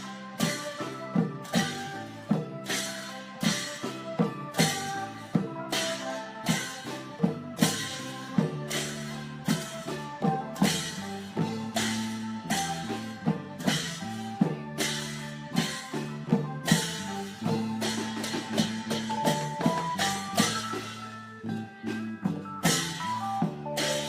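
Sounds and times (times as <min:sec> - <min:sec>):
drum strokes: 0:00.0 - 0:24.0
held melodic line: 0:00.0 - 0:24.0.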